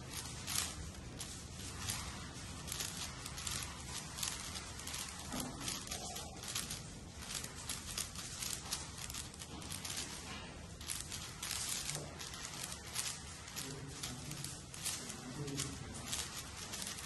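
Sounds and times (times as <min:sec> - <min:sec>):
speed cube clicking: 0:00.0 - 0:17.0.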